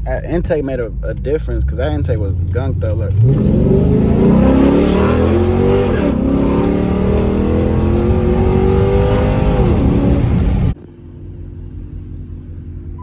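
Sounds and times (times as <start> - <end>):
low steady engine rumble: 0.0 - 13.0
car engine accelerating hard: 0.1 - 12.5.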